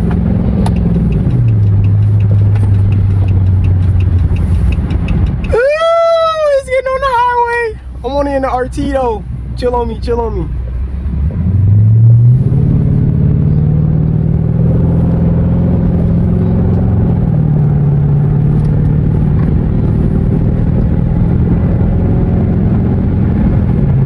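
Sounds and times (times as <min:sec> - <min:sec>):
car engine droning at cruise: 0:00.0 - 0:24.0.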